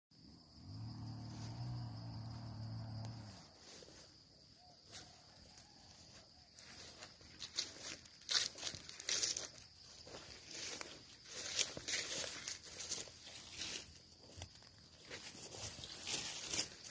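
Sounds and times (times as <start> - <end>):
insects chirring: 0.2 - 16.9
footsteps in grass and leaves: 3.2 - 16.9.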